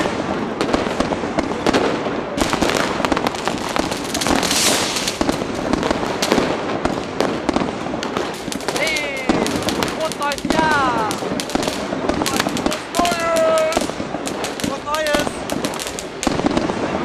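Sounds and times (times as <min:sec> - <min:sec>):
crackling hiss: 0:00.0 - 0:17.0
fireworks banging: 0:00.0 - 0:17.0.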